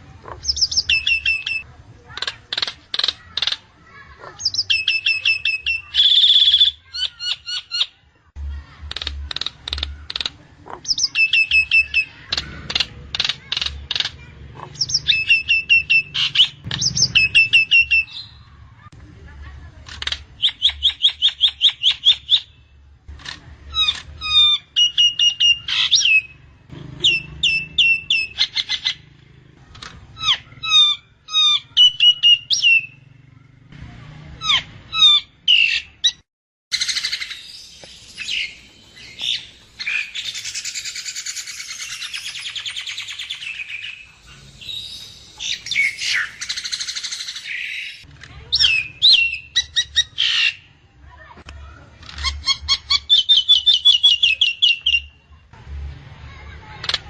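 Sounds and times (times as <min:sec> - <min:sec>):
bird rasping chatter: 0:00.2 - 0:08.0, 0:08.8 - 0:18.6, 0:19.9 - 0:33.2, 0:34.4 - 0:50.7, 0:52.0 - 0:55.1, 0:56.7 - 0:57.0.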